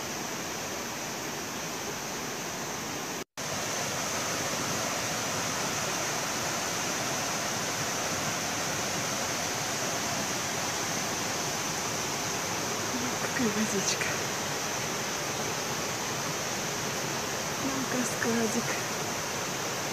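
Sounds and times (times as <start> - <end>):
small waterfall rushing: 0.0 - 19.9.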